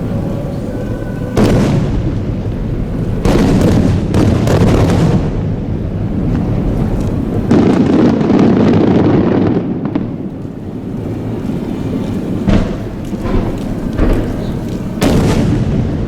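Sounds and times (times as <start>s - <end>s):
firework shells bursting: 1.4s - 16.0s.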